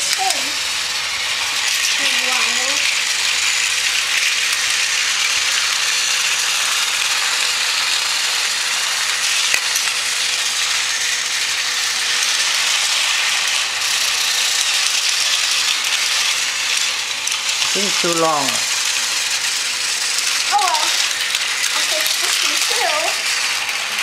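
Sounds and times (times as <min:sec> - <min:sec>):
toy train motors whirring: 0:00.0 - 0:24.0.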